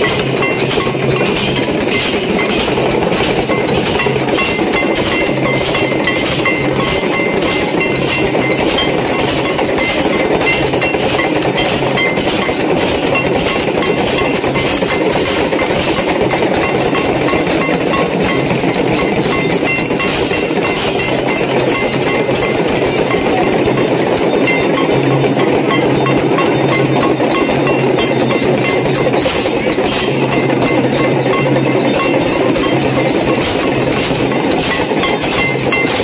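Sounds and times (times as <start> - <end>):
brass bells clanging: 0.0 - 36.0
metallic clatter: 0.0 - 36.0.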